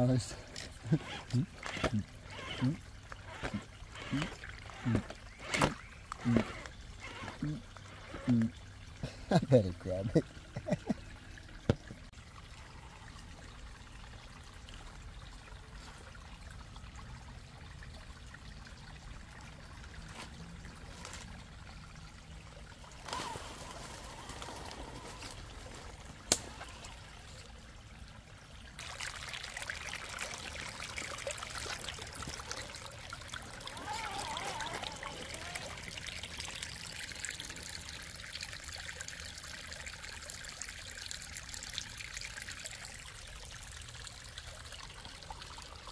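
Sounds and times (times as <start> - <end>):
creek water trickling over rocks: 0.0 - 45.9.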